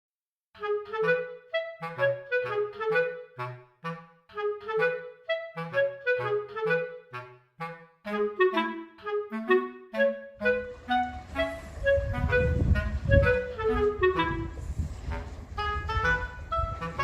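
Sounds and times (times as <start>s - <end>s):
lively bouncy instrumental music: 0.6s - 17.0s.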